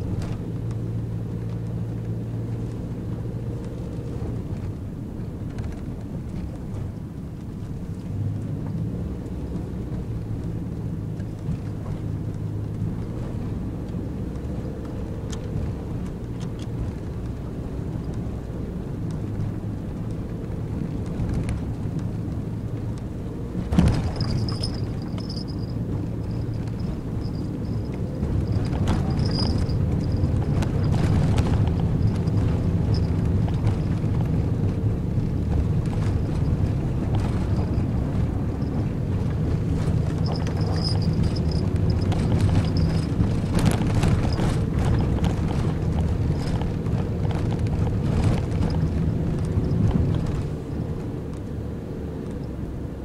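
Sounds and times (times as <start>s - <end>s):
van engine and road noise: 0.0s - 53.0s.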